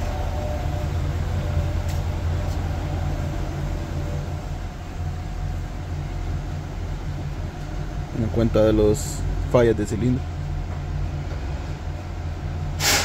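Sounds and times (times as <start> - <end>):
car engine idling: 0.0 - 12.7.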